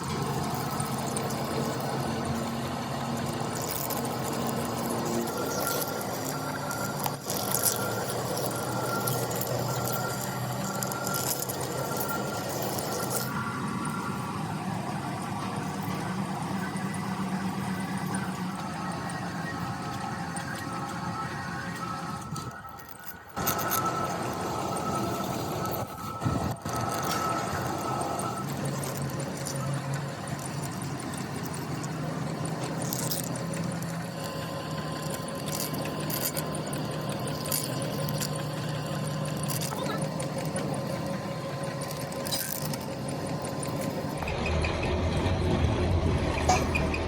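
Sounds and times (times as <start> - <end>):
workshop machine humming: 0.0 - 47.0.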